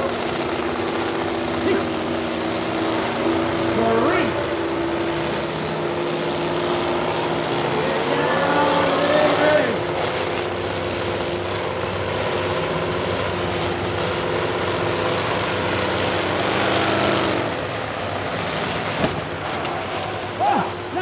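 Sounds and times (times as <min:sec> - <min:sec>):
broad rushing noise: 0:00.0 - 0:21.0
truck engines running: 0:00.0 - 0:21.0.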